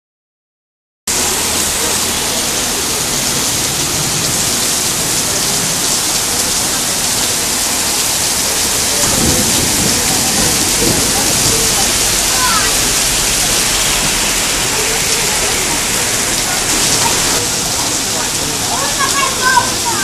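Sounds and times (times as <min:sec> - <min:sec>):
heavy rain on pavement: 0:01.1 - 0:20.0.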